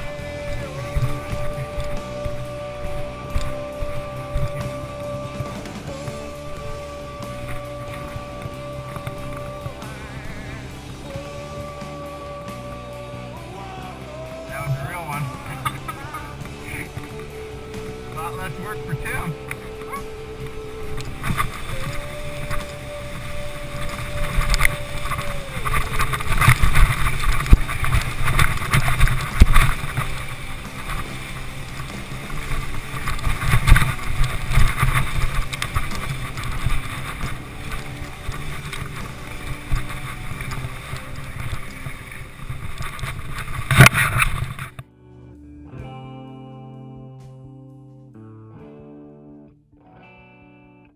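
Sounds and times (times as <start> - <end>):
wind on microphone: 0.0 - 44.8.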